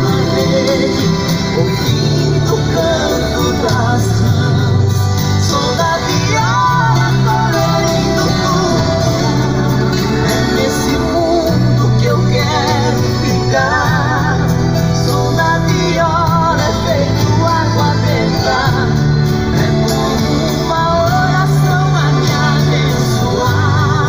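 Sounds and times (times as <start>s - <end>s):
instrumental country song: 0.0s - 24.0s.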